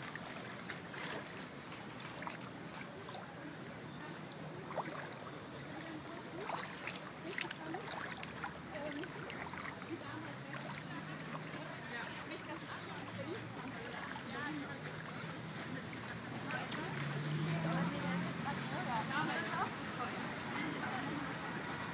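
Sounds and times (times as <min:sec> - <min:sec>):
shallow water rippling and trickling: 0:00.0 - 0:21.9.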